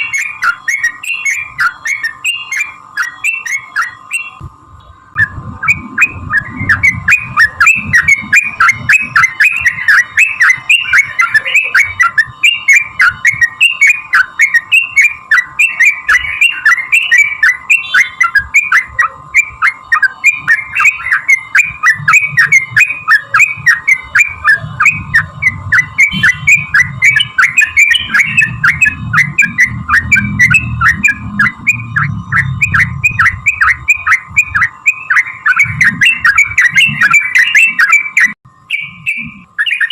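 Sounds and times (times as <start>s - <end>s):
bird rapid chattering call: 0.0s - 4.4s, 5.1s - 39.9s
steady high tone: 0.0s - 39.9s.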